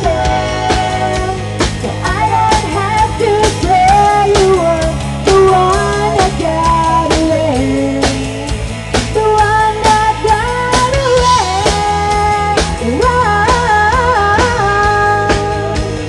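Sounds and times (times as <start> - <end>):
drum kit beat: 0.0 - 16.0
electric bass: 0.0 - 16.0
woman singing: 0.0 - 16.0.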